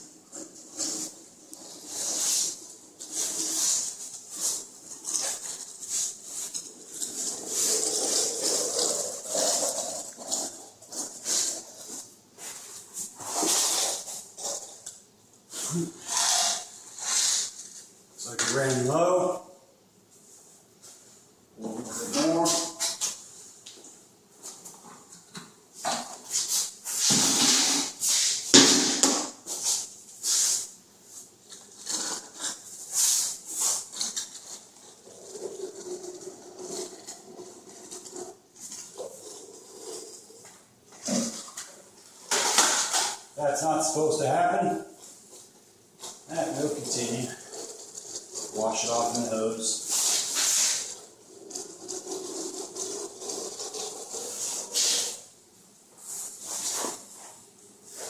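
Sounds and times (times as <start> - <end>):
tool scraping wet floor compound: 0.0 - 19.4, 21.6 - 23.2, 24.4 - 58.0.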